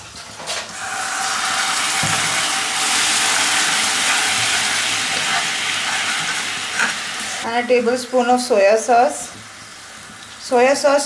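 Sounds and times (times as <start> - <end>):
sugar sauce sizzling in a wok: 0.7 - 11.0.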